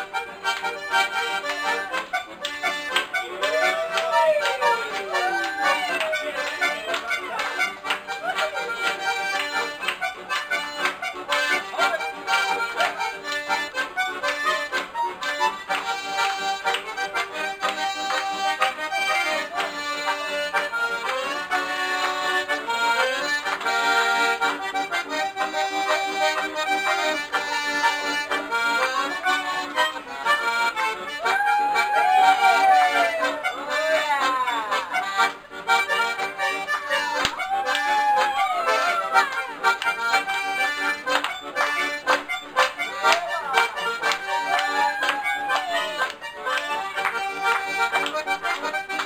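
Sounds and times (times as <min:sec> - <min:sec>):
accordions playing chords: 0:00.0 - 0:49.0.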